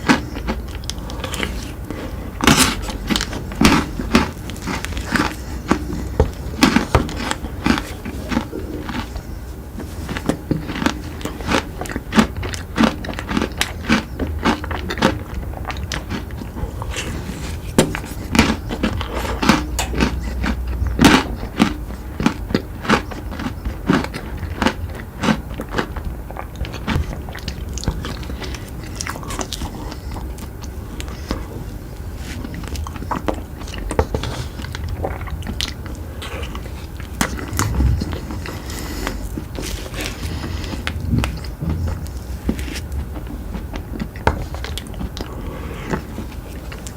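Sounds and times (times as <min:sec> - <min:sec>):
crunchy chewing of sweets: 0:00.0 - 0:46.9.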